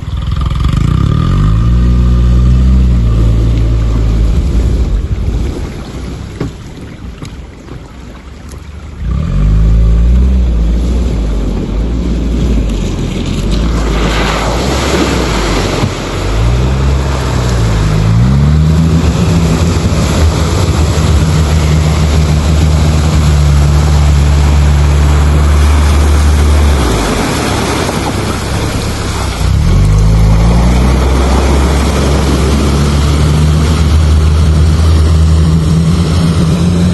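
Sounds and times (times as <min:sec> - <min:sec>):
atv engine revving: 0:00.0 - 0:05.4, 0:09.0 - 0:36.9.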